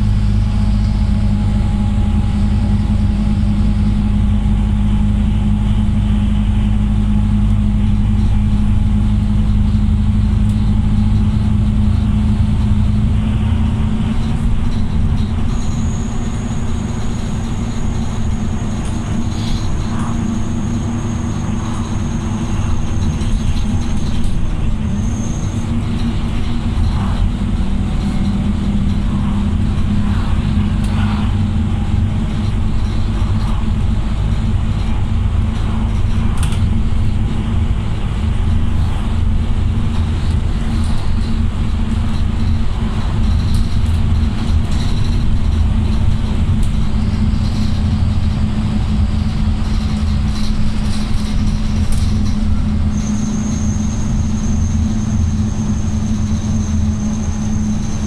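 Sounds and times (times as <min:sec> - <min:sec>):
bus engine drone: 0:00.0 - 0:58.0
faint rattles: 0:00.0 - 0:58.0
tyre and road noise: 0:00.0 - 0:58.0.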